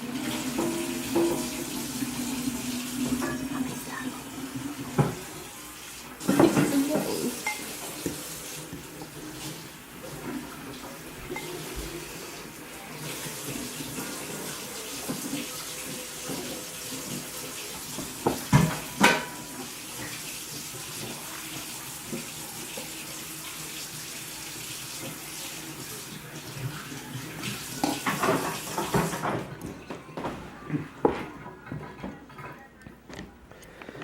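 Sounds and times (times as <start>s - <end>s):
water running from tap: 0.0s - 29.7s.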